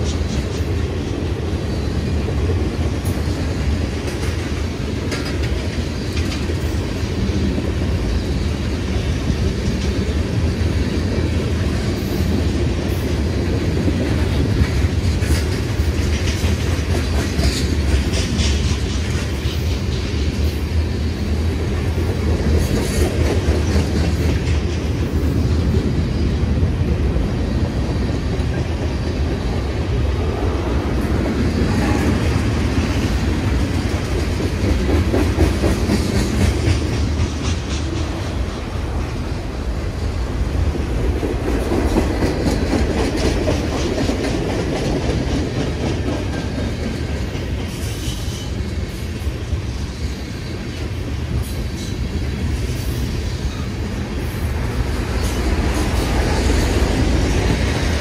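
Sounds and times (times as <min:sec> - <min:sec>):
clickety-clack over rail joints: 0:00.0 - 0:58.0
train wheels rumbling: 0:00.0 - 0:58.0.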